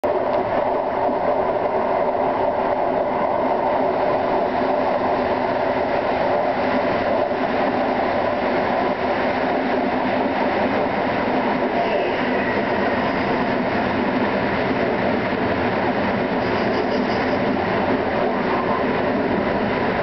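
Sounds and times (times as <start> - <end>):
train running on track: 0.0 - 20.0
faint steady drone: 0.1 - 20.0.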